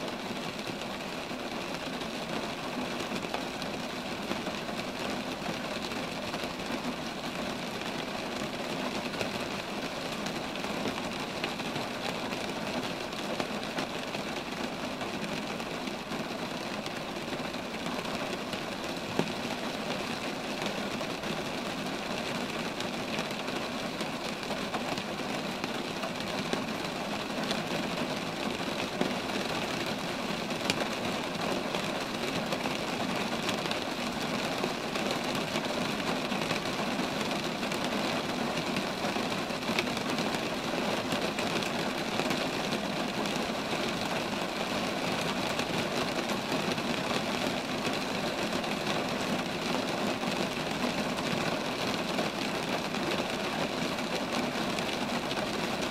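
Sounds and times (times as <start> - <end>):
rain falling on trees: 0.0 - 55.9.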